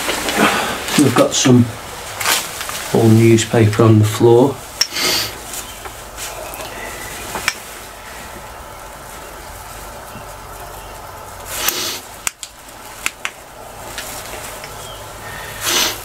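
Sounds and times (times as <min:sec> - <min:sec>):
newspaper rustling: 0:00.0 - 0:03.9, 0:05.3 - 0:15.2
steady low hum: 0:00.0 - 0:16.0.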